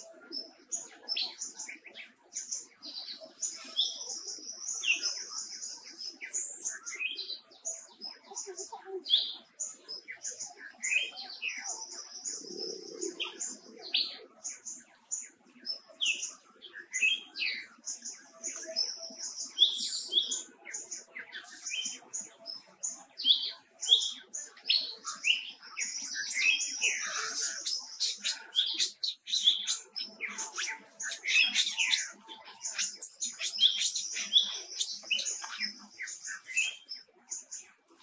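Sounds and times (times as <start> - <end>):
high-pitched chirps and whistled calls: 0.0 - 38.0.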